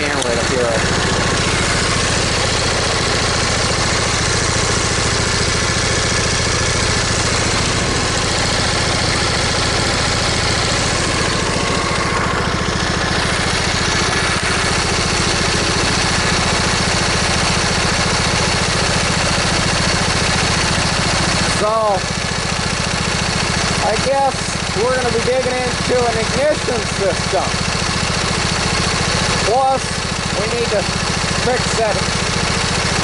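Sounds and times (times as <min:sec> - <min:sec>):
lawn tractor engine idling: 0:00.0 - 0:33.0.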